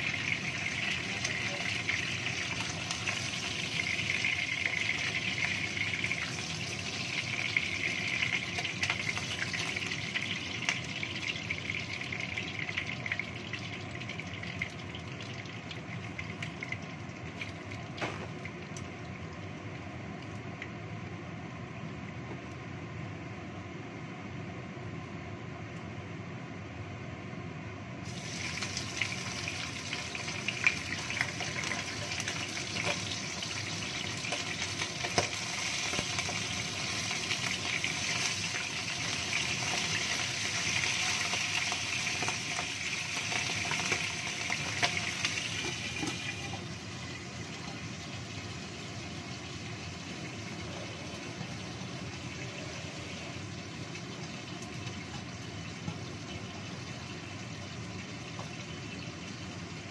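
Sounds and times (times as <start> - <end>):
fish sizzling in hot oil: 0.0 - 18.6, 28.0 - 59.9.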